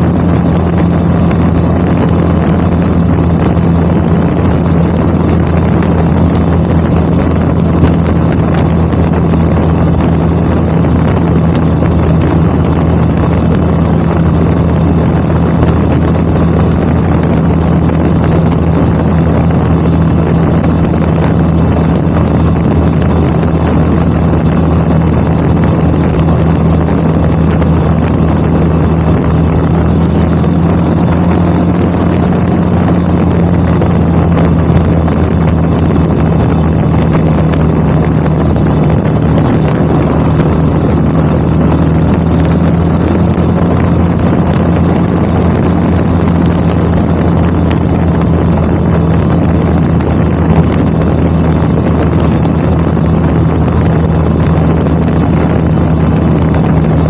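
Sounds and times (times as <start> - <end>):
motorcycle engine exhaust drone: 0.0 - 57.0
wind noise on microphone: 0.0 - 57.0.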